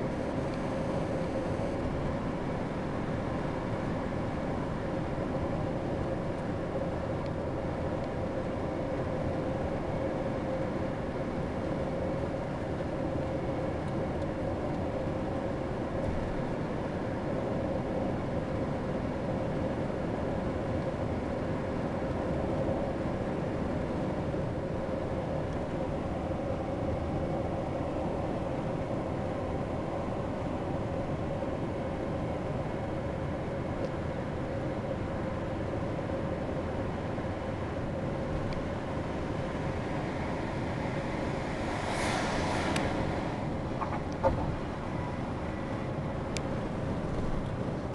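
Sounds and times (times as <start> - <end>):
steady hum: 0.0 - 47.9
vehicle engine and tyre noise: 0.0 - 47.9.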